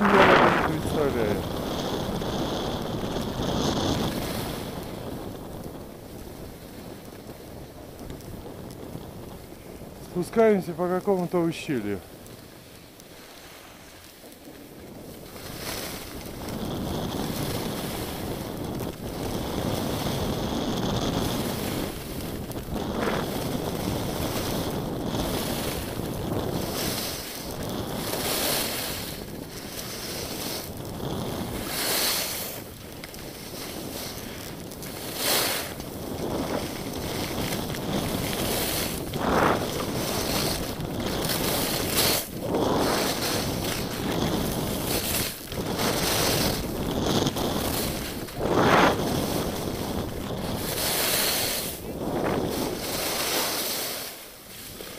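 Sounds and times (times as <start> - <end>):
skis scraping over snow: 0.0 - 54.9
wind on microphone: 0.0 - 54.9.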